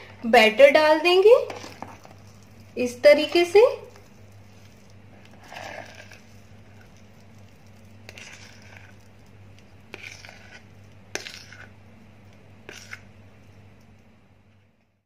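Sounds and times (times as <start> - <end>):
spatula scraping batter: 1.2 - 13.6.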